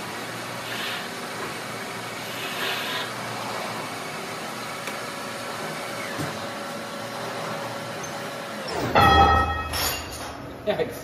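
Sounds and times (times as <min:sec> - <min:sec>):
faint machine whine: 0:00.0 - 0:11.0.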